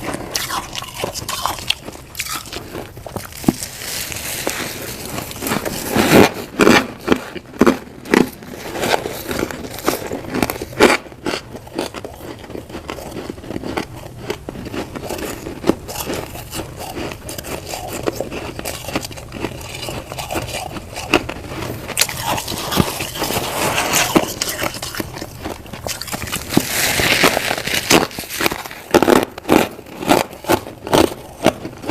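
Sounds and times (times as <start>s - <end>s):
frost being bitten and chewed: 0.0s - 31.9s.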